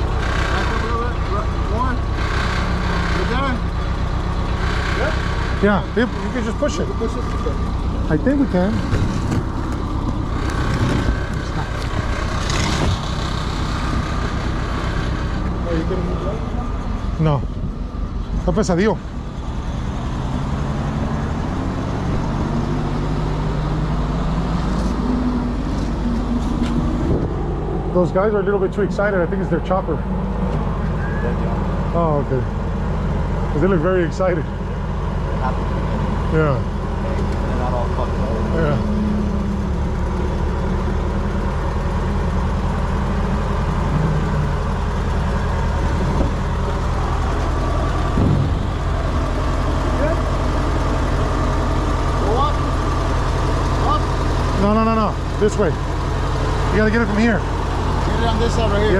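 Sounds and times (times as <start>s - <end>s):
truck engine humming: 0.0s - 58.9s.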